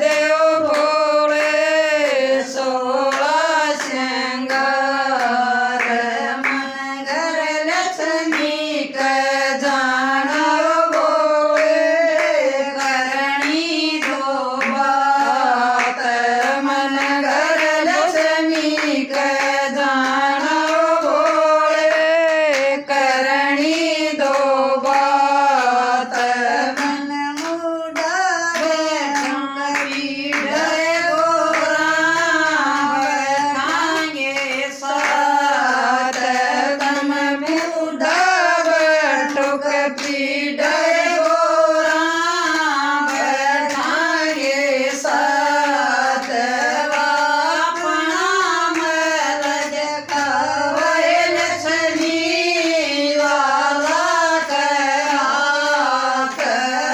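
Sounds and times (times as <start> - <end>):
hand claps: 0.0 - 56.9
women singing devotional song: 0.0 - 56.9.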